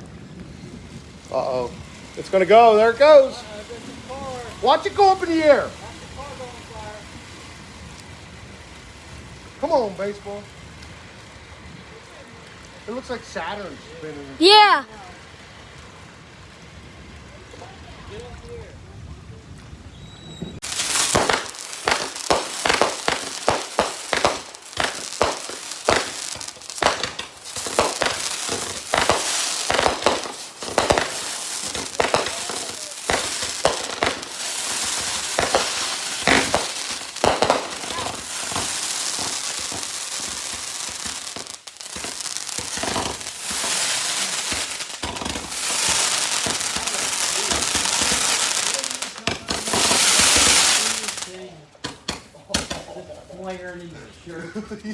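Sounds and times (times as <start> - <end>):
firework cracks and pops: 0.0 - 19.9, 20.6 - 53.7
crackling hiss: 0.0 - 54.9.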